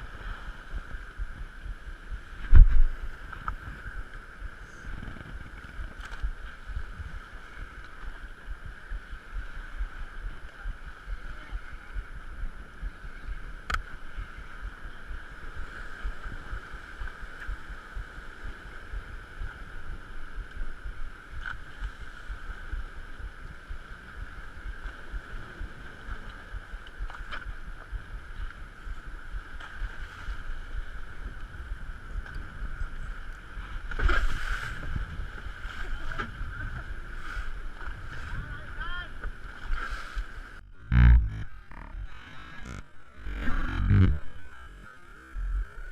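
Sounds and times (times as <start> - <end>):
steady hum: 0.0 - 45.9
water noise: 0.0 - 45.9
wind rumble on microphone: 0.0 - 45.9.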